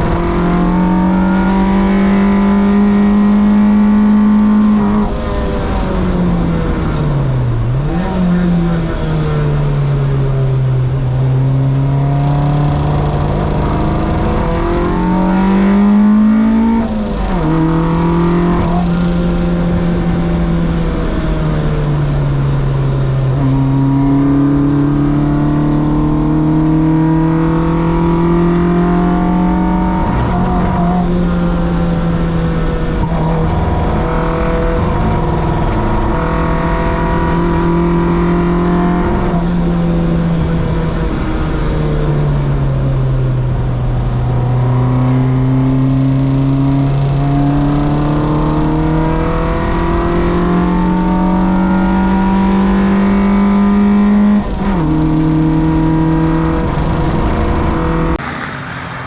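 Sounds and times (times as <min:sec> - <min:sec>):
race car engine running hard: 0:00.0 - 0:59.0.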